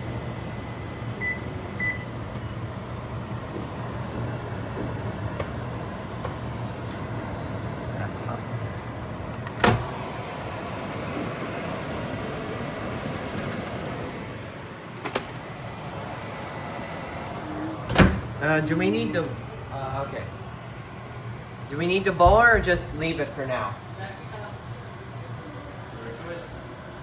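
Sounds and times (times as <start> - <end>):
microwave oven hum: 0.0 - 27.0.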